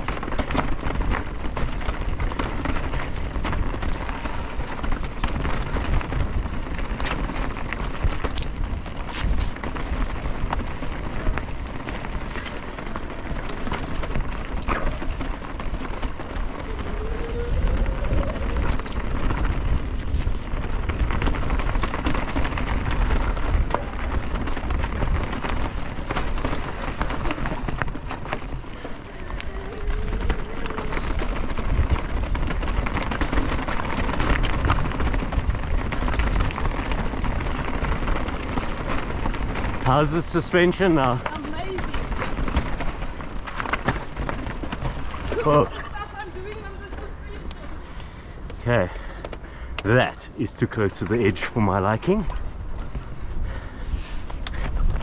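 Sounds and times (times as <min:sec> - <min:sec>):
bike clattering over bumps: 0:00.0 - 0:47.8
bike tyres over rocks: 0:00.0 - 0:55.0.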